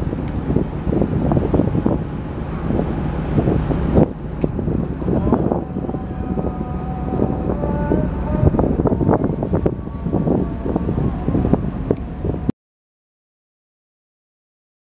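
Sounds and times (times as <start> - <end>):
continuous low rumble: 0.0 - 12.5
wind buffeting microphone: 0.0 - 12.5.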